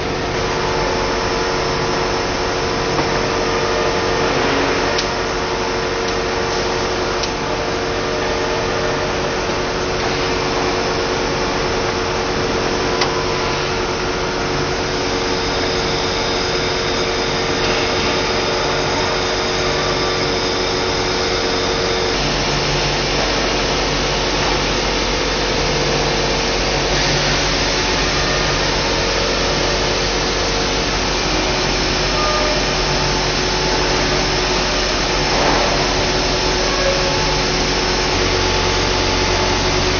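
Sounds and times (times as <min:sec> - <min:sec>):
machine humming with held tones: 0:00.0 - 0:39.9.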